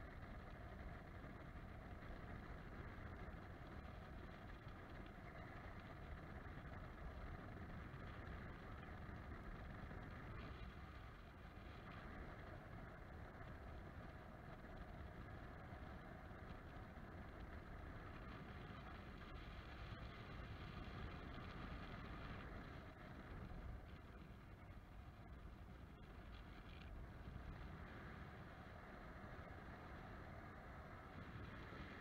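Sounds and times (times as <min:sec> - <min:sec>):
wind noise on camera: 0:00.0 - 0:32.0.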